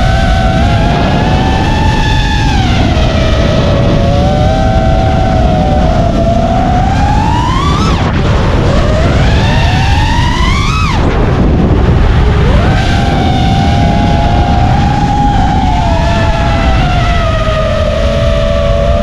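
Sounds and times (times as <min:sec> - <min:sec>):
low rush of air: 0:00.0 - 0:19.0
quadcopter motors whining: 0:00.0 - 0:19.0.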